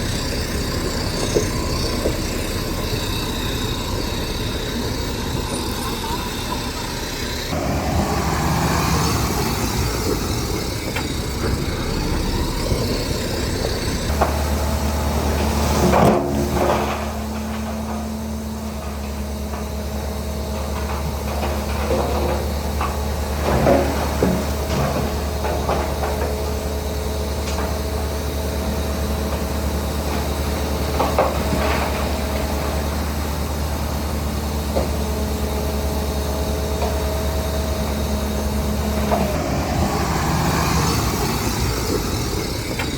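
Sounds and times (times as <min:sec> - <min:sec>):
diesel machinery engine running: 0:00.0 - 0:42.9.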